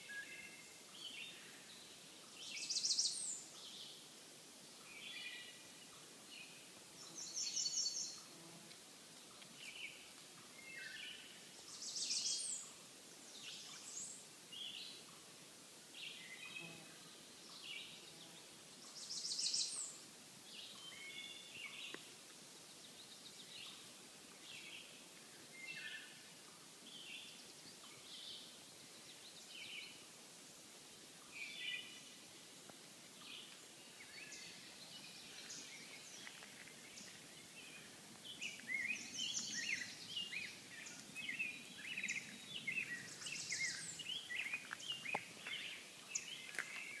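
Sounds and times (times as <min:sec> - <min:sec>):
songbirds singing: 0:00.0 - 0:15.3, 0:15.9 - 0:30.2, 0:31.0 - 0:47.0
faint background hiss: 0:00.0 - 0:47.0.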